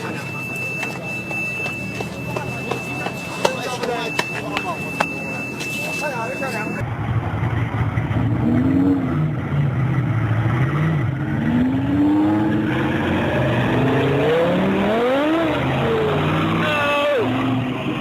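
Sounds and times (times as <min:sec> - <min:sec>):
car engine revving: 0:00.0 - 0:16.7.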